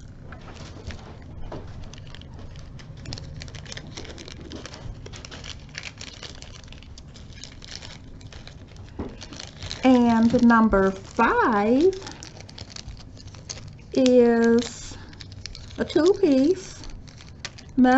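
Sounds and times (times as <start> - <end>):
beads clicking and bags rustling: 0.0 - 17.9
steady low hum: 0.0 - 17.9.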